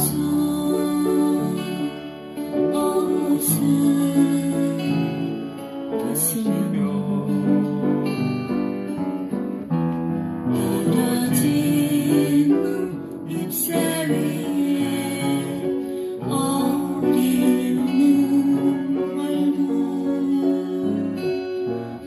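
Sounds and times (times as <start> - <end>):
acoustic guitar: 0.0 - 22.0
upright piano: 0.0 - 22.0.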